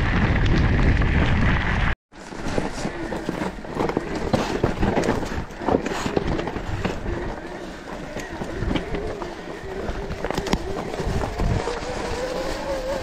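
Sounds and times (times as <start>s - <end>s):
bike knocking and rattling: 0.0s - 13.0s
tyres on loose stones: 2.2s - 13.0s.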